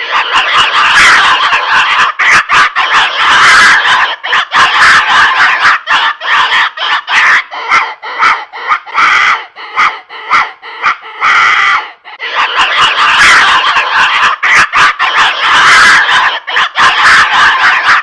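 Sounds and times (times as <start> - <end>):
hand pig call squealing: 0.1 - 18.0.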